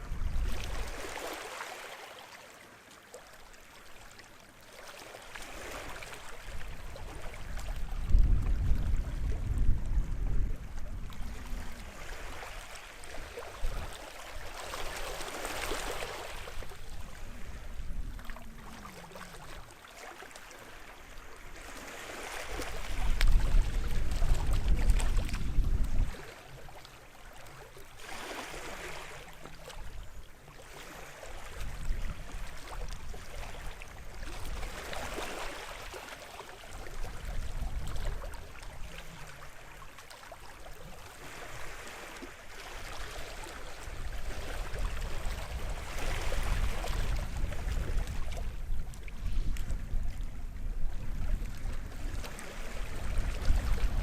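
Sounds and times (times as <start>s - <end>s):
small waves washing onto shore: 0.0s - 54.0s.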